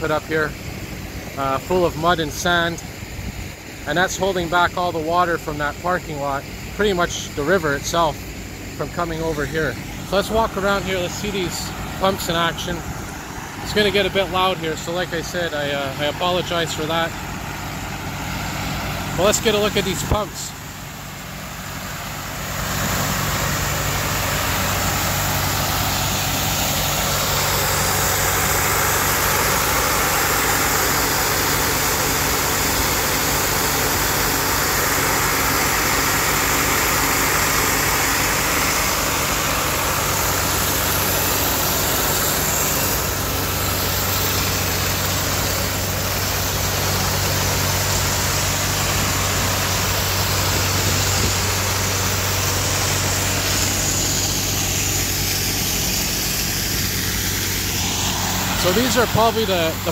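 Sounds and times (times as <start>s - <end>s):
diesel pump engines droning: 0.0s - 59.9s.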